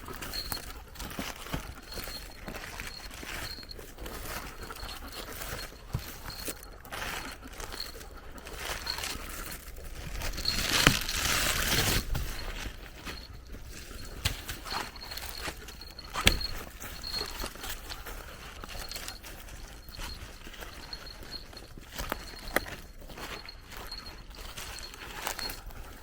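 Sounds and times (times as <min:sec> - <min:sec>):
footsteps on forest floor: 0:00.0 - 0:26.0
scuffing and rustling: 0:00.0 - 0:26.0.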